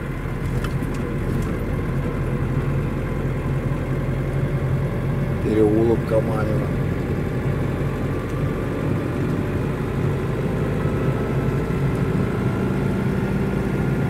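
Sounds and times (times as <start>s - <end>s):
truck engine and road noise: 0.0s - 14.0s.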